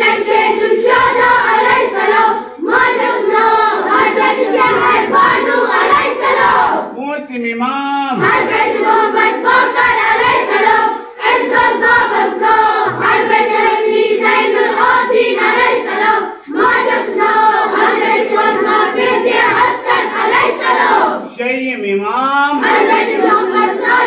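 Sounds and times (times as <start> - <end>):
children chanting in unison: 0.0 - 6.9, 8.2 - 21.3, 22.6 - 24.0.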